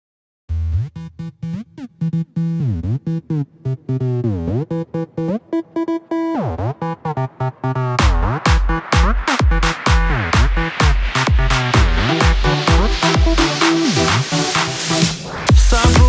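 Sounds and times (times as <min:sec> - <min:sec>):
synthesizer playing choppy notes: 0:00.5 - 0:15.1.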